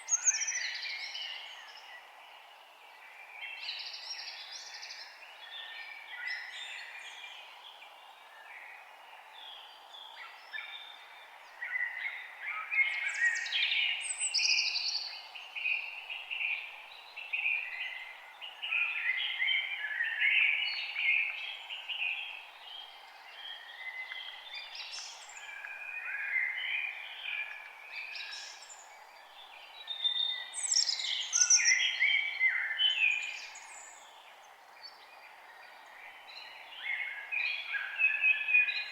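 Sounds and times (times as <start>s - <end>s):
faint background hiss: 0.0s - 38.9s
songbirds singing: 0.0s - 38.9s.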